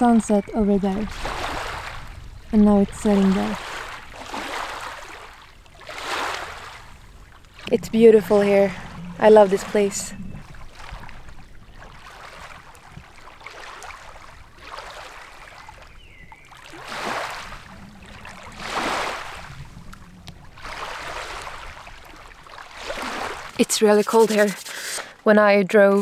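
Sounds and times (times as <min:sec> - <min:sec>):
waves lapping against shore: 0:00.0 - 0:26.0.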